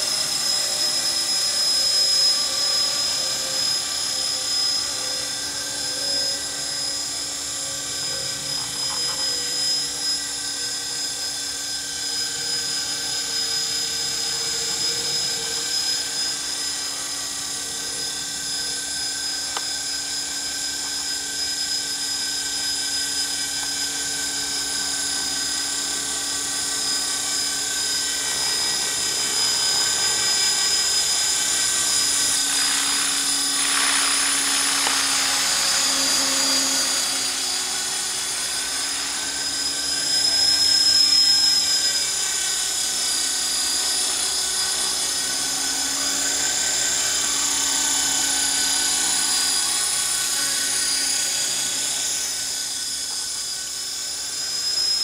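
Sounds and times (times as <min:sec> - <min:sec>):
rc helicopter motor whine: 0:00.0 - 0:55.0.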